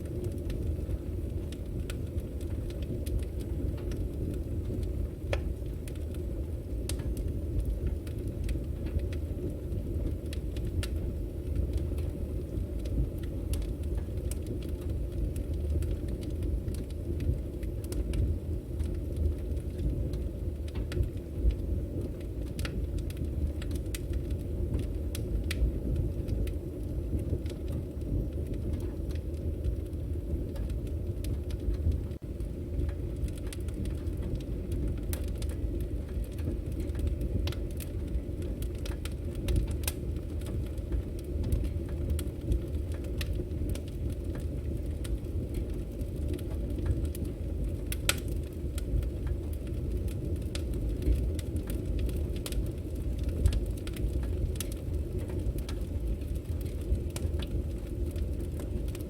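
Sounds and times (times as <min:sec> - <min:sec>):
fire crackling and popping: 0:00.0 - 0:59.0
firewood burning: 0:00.0 - 0:59.0.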